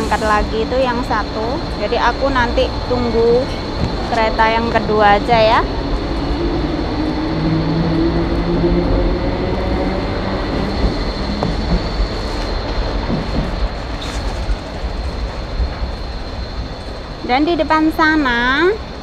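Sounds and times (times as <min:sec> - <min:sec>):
electric train rumbling with whine: 0:00.0 - 0:19.0.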